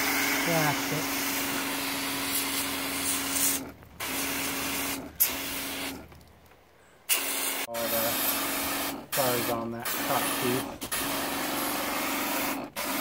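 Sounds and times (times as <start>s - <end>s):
water spray hissing: 0.0s - 6.3s, 7.0s - 13.0s
pump humming: 0.0s - 6.4s, 7.1s - 13.0s.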